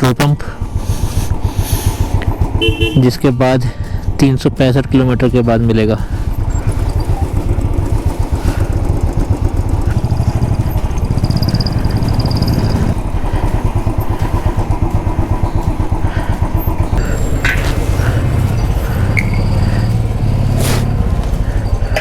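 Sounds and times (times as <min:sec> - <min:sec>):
motorcycle engine idling: 0:00.4 - 0:22.0.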